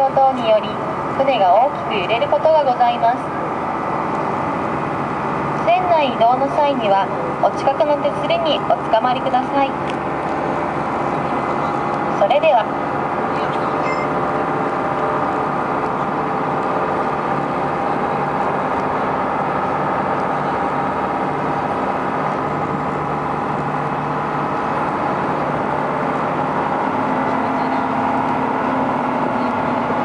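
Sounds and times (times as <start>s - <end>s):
ferry engine humming: 0.0s - 30.0s.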